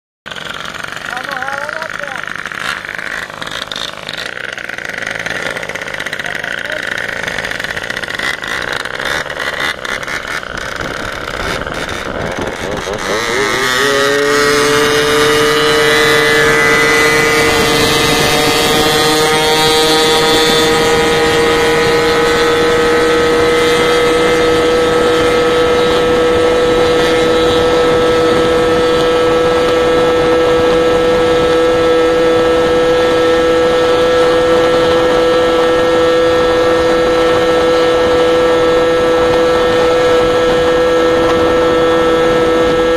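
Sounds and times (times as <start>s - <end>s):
two-stroke moped engine revving: 0.3s - 42.9s.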